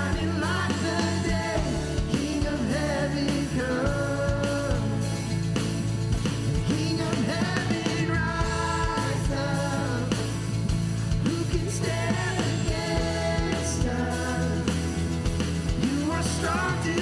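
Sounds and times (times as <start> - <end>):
voices singing: 0.0 - 5.5, 6.5 - 17.0
drum beat: 0.0 - 17.0
worship band playing: 0.0 - 17.0.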